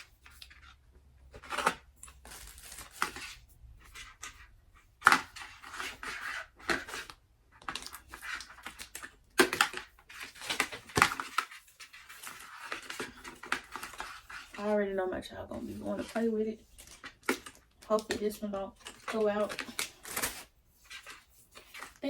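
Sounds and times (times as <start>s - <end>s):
scraping and rustling: 0.0s - 22.0s.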